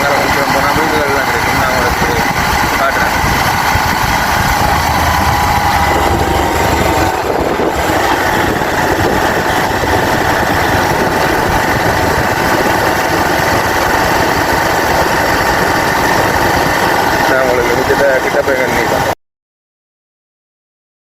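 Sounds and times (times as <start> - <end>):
motorcycle engine running: 0.0 - 19.2
road and wind noise: 0.0 - 19.2.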